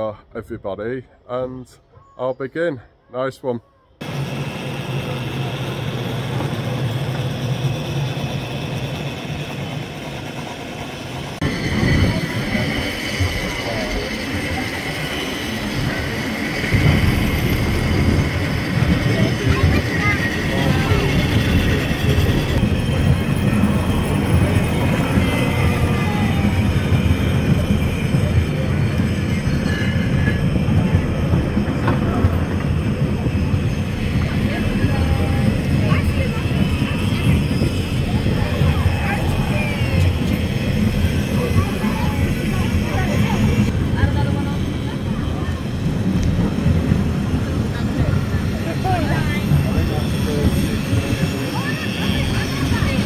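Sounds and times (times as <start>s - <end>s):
tramcar rumbling on rails: 4.0s - 53.0s.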